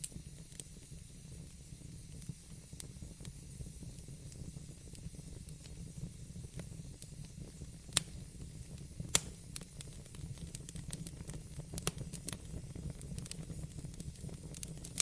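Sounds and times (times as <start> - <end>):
low rumble of flames: 0.0 - 15.0
sharp pops of burning wood: 0.0 - 15.0
wood fire crackling: 0.0 - 15.0.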